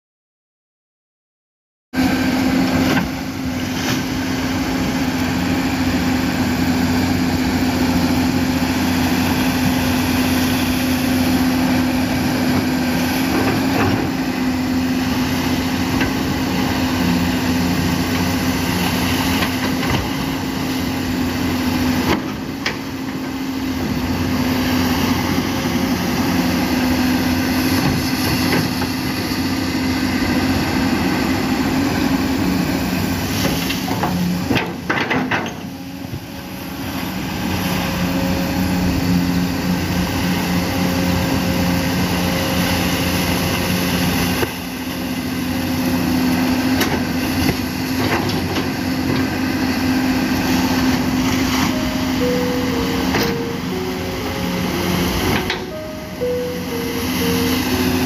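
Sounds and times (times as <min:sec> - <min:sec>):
excavator diesel engine humming: 0:02.0 - 0:58.0.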